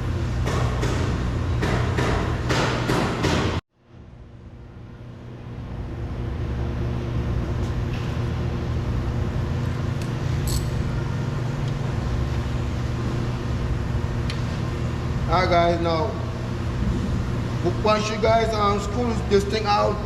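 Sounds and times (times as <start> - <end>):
low traffic-like hum: 0.0 - 20.0.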